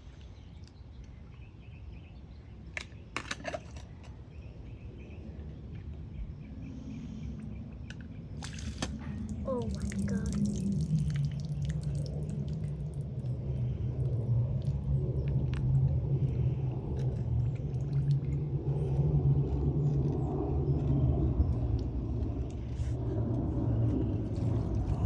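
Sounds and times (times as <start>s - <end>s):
low rumble: 4.4s - 25.0s.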